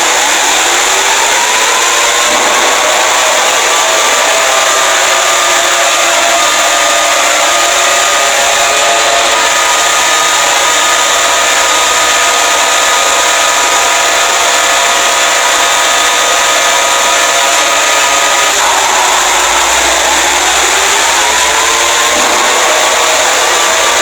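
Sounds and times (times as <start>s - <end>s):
loud steady static: 0.0s - 24.0s.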